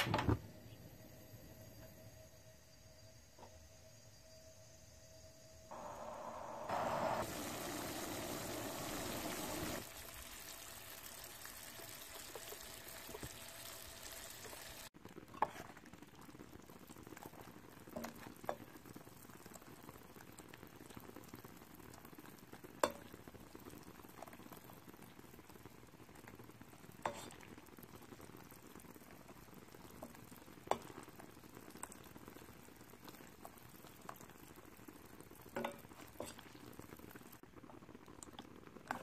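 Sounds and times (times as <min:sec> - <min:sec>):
syrup bubbling in a pot: 0:05.7 - 0:39.0.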